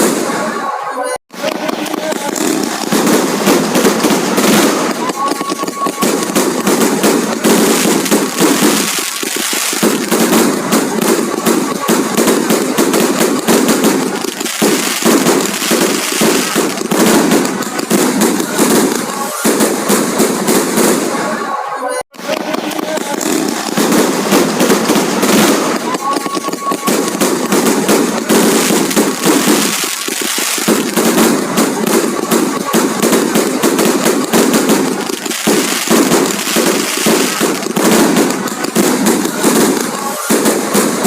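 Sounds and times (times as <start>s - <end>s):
fireworks crackling bangs: 0.0s - 41.0s.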